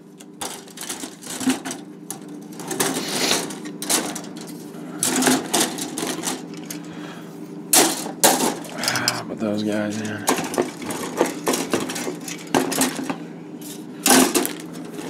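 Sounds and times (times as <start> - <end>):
plastic sprues clattering: 0.2 - 6.9, 7.7 - 9.1, 10.0 - 15.0.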